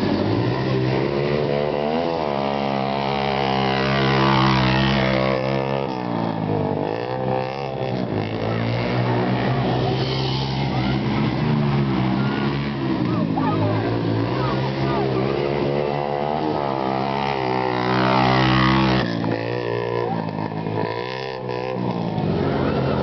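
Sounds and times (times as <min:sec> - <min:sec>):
dirt bike engines racing: 0:00.0 - 0:23.0.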